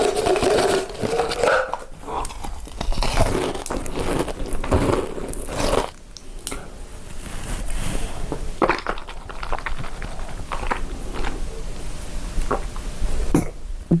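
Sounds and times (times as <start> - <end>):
ice crunching being chewed: 0.0 - 11.8.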